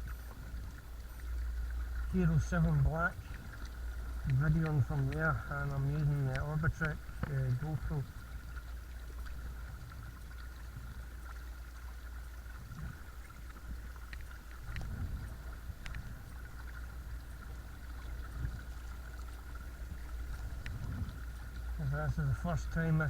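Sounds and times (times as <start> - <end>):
water washing against hull: 0.0 - 23.0.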